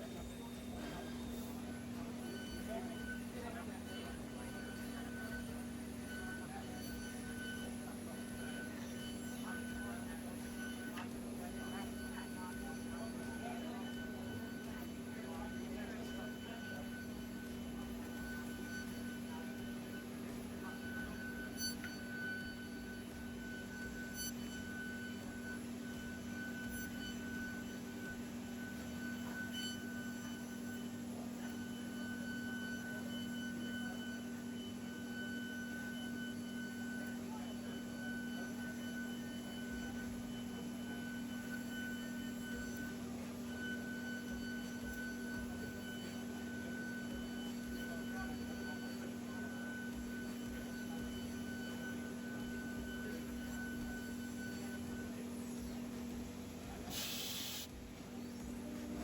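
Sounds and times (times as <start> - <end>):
machine hum: 0.0 - 59.0
thin high whine: 0.0 - 59.0.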